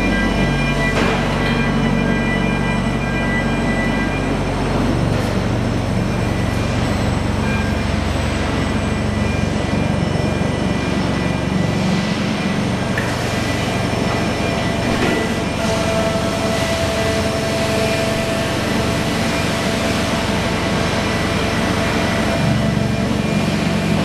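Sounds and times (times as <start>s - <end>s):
machine hum tones: 0.0s - 24.0s
mechanical din of production line: 0.0s - 24.0s.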